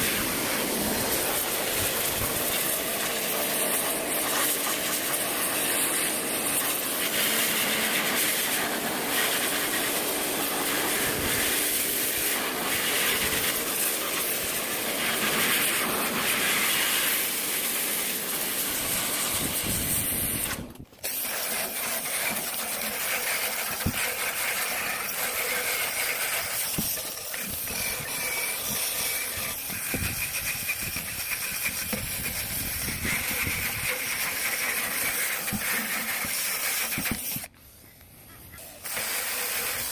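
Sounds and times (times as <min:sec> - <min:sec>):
water spraying hard: 0:00.0 - 0:37.5, 0:38.6 - 0:39.9.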